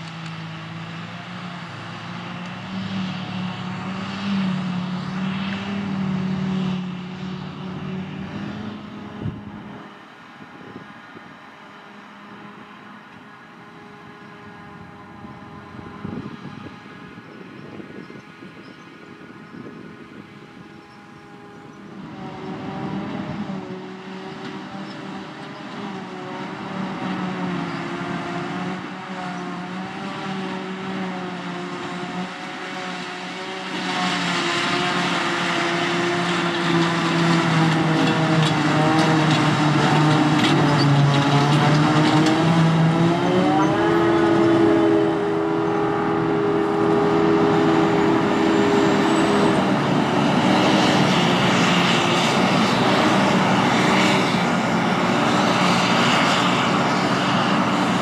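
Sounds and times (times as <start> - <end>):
harvester and tractor engines: 0.0 - 58.0.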